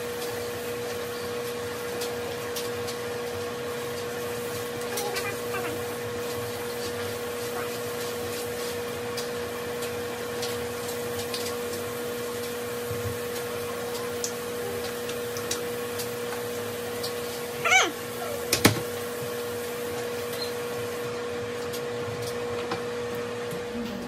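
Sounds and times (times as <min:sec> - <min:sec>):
electric toothbrush motor hum: 0:00.0 - 0:21.2.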